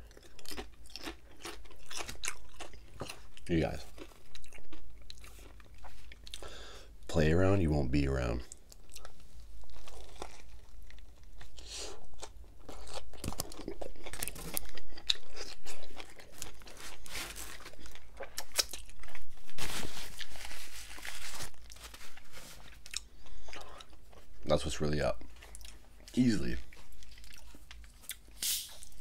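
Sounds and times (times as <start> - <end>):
chewing with crunches: 0.0 - 6.5, 8.4 - 20.4, 21.1 - 24.5, 25.2 - 29.0.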